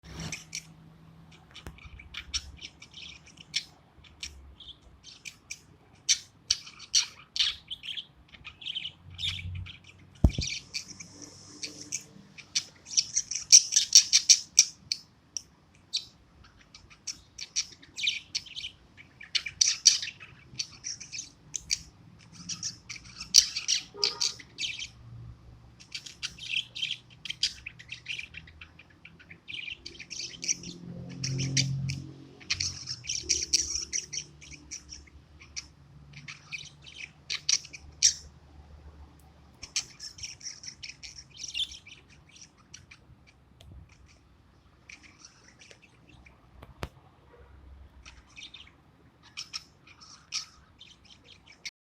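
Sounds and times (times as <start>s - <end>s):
budgerigars chirping: 0.1s - 38.4s, 39.1s - 46.9s, 47.9s - 51.7s.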